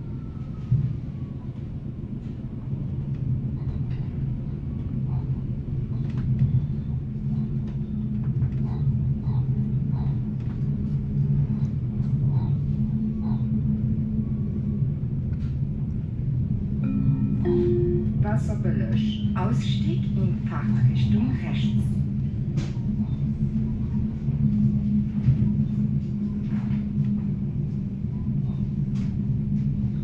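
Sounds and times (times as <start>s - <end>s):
train rumble inside carriage: 0.0s - 30.0s.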